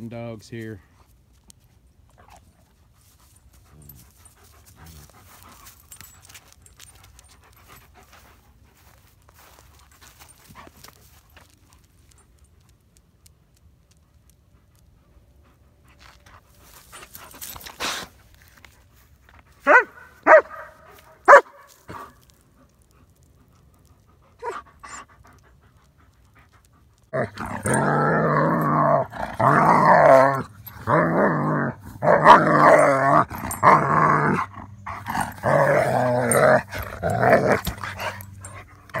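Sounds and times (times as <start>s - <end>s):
dogs barking and growling: 2.1s - 12.2s, 13.9s - 18.2s, 19.3s - 39.0s.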